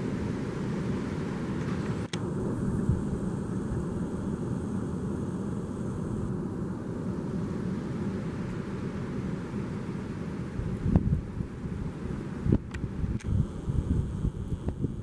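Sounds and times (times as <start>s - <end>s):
steady low rumbling noise: 0.0s - 15.0s.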